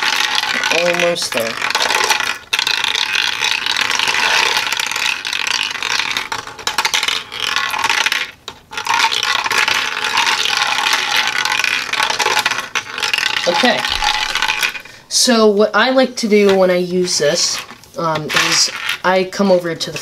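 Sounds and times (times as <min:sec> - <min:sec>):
metal pellets rattling through plastic: 0:00.0 - 0:15.0, 0:16.4 - 0:20.0.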